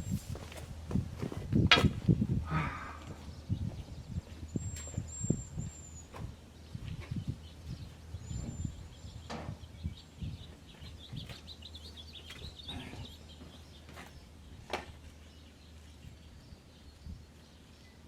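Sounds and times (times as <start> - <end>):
small bird chirping: 3.2 - 18.0.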